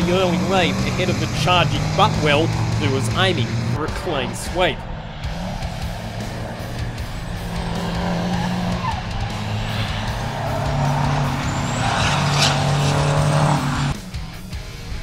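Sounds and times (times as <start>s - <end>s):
diesel truck engines passing: 0.0s - 15.0s.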